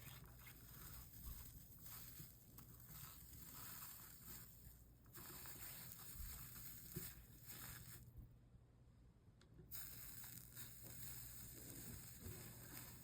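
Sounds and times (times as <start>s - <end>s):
scratchy soldering crackle: 0.0s - 8.2s, 9.7s - 13.0s.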